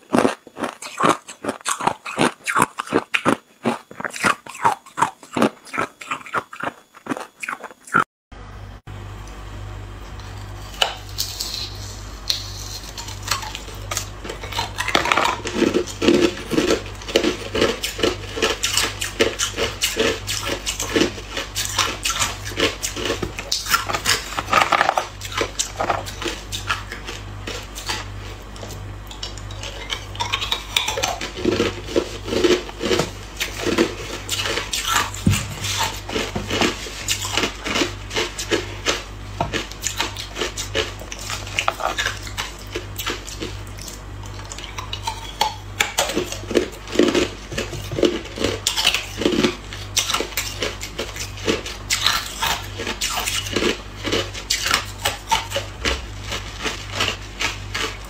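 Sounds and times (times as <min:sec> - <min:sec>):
ice cubes crunched and chewed: 0:00.0 - 0:08.0, 0:11.0 - 0:58.0
steady low hum: 0:00.0 - 0:58.0.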